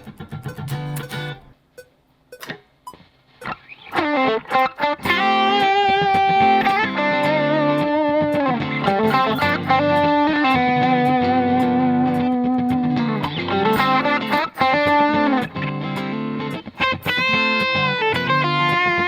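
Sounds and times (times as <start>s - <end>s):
electric guitar solo: 3.4s - 19.0s.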